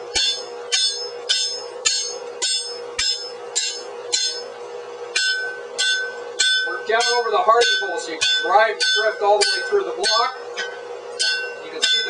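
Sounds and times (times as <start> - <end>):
hammer striking steel drift: 0.1 - 12.0.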